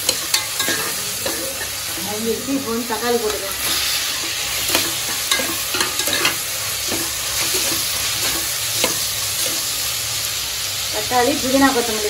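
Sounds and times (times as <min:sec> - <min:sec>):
metal spoon clinking and scraping pot: 0:00.0 - 0:09.8
food sizzling in hot oil: 0:00.0 - 0:12.0.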